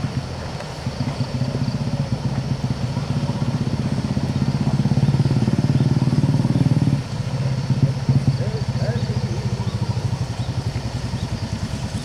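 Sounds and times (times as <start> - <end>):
diesel engine labouring: 0.0 - 12.0.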